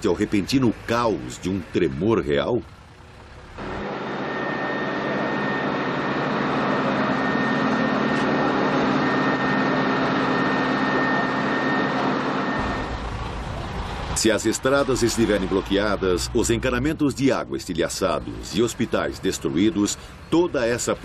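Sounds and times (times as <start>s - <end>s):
engine drone with high whine: 0.0s - 21.0s.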